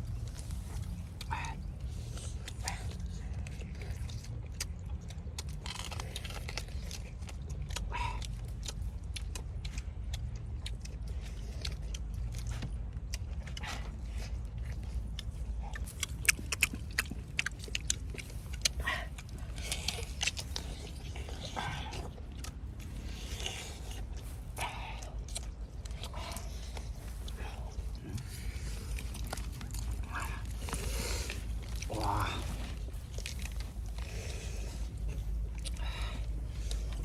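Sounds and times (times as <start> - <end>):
biting and chewing: 0.0 - 37.0
steady low rumble: 0.0 - 37.0.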